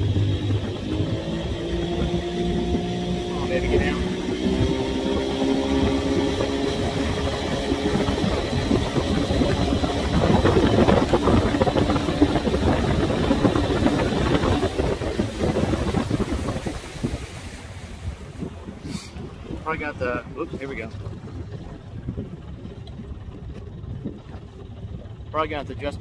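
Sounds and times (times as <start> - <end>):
outboard engine running: 0.0 - 26.0
rushing wind: 0.0 - 26.0
water noise: 0.0 - 26.0.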